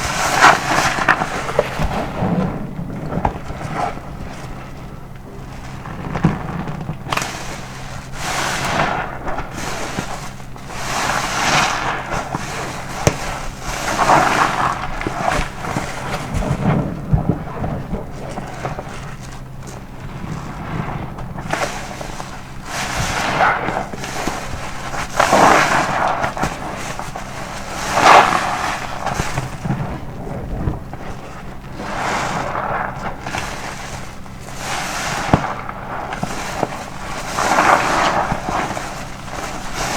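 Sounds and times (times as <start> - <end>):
sponge squelching with foam: 0.0 - 39.9.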